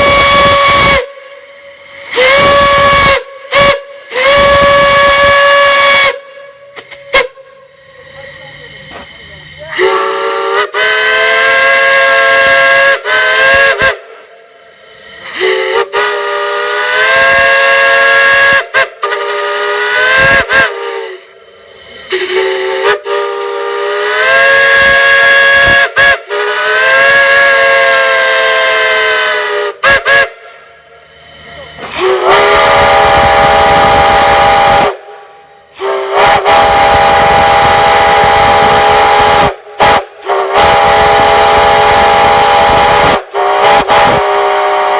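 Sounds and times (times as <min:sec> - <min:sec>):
steam whistle blasts: 0:00.0 - 0:44.9.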